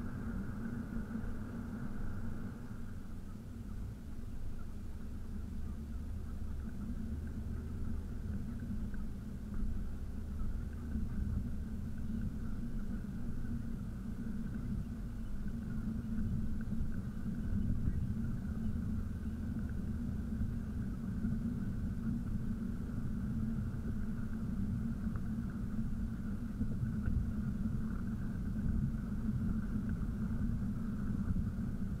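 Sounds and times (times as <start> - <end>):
car engine rumble: 0.0 - 32.0.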